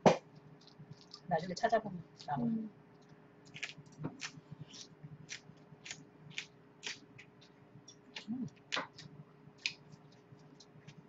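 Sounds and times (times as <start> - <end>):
crunchy chewing of greens: 0.2 - 11.0.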